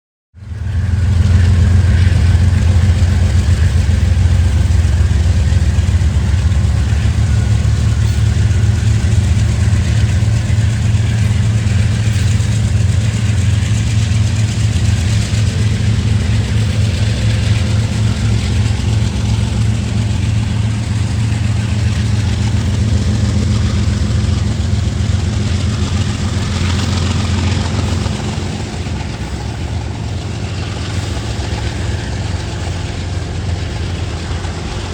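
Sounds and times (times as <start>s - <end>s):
large engine idling: 0.3s - 34.9s.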